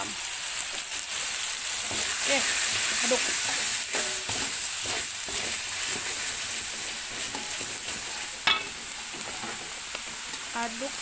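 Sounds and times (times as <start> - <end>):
spice paste sizzling in oil: 0.0 - 11.0
spatula scraping a wok: 1.1 - 11.0.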